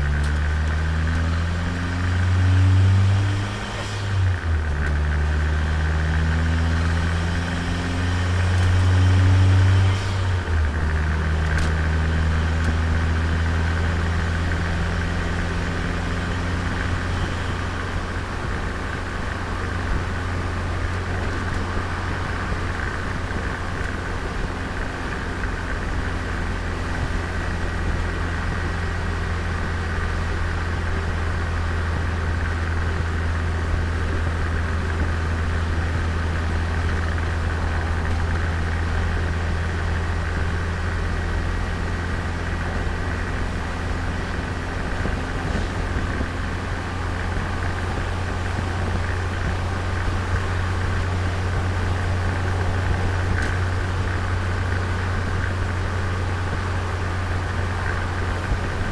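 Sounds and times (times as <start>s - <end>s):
car engine while driving: 0.0s - 58.9s.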